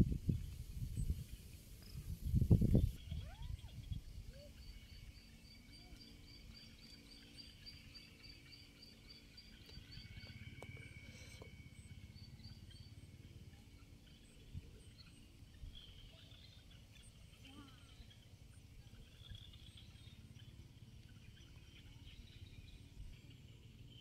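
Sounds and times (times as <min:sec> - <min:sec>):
faint high chirps: 0:00.4 - 0:24.0.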